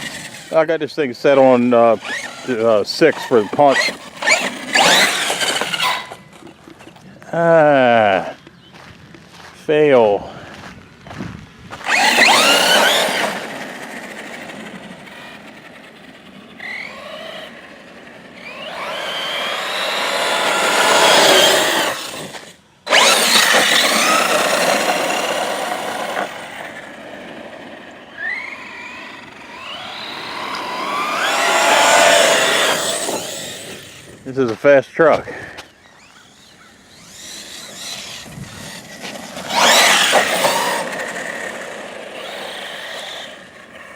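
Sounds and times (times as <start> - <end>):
electric motor whining: 0.0 - 8.6, 10.8 - 34.5, 35.1 - 43.9.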